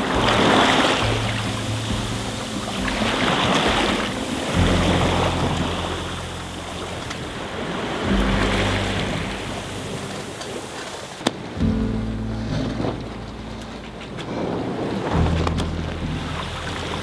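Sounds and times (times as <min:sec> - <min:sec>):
background music with low notes: 0:00.0 - 0:17.0
water rushing past a hull: 0:00.0 - 0:17.0.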